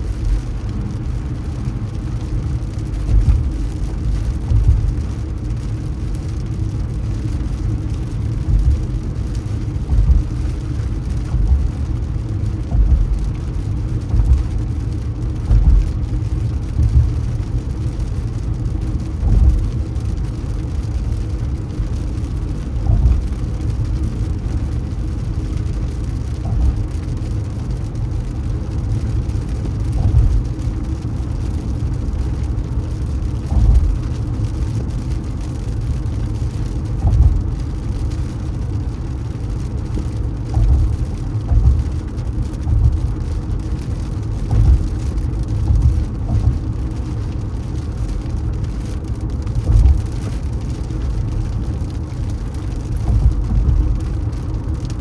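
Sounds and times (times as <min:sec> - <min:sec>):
low thumps: 0:00.0 - 0:24.6, 0:25.2 - 0:27.8, 0:28.6 - 0:31.0, 0:33.4 - 0:34.4, 0:36.0 - 0:55.0
car driving through city streets: 0:00.0 - 0:55.0.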